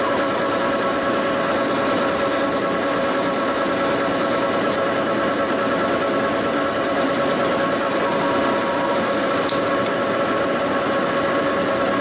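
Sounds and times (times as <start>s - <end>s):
lathe running hum: 0.0s - 12.0s.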